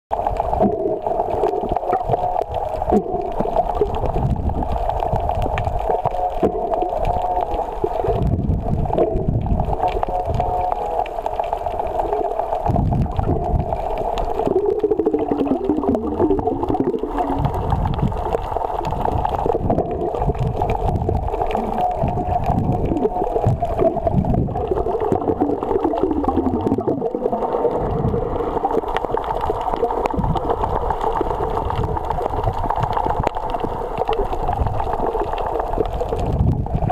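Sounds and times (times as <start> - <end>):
muffled underwater rumble: 0.1 - 36.9.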